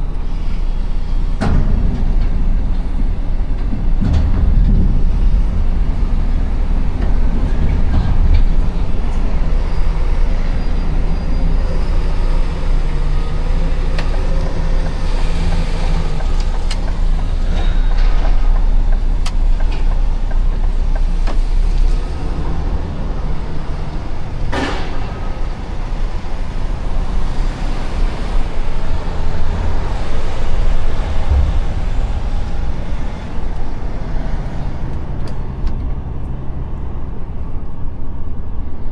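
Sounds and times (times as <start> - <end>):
diesel engine rumble: 0.0 - 38.9
road noise: 0.0 - 38.9.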